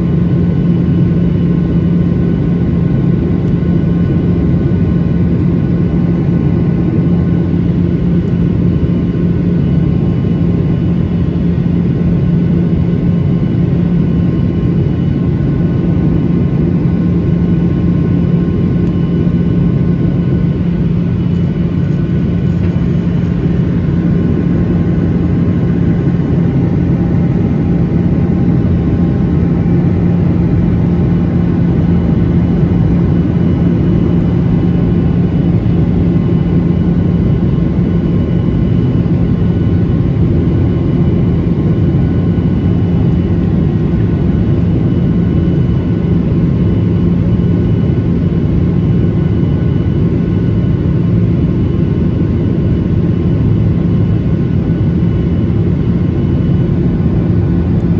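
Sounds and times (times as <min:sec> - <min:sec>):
airplane cabin hum: 0:00.0 - 0:57.9
faint steady whines: 0:00.0 - 0:57.9.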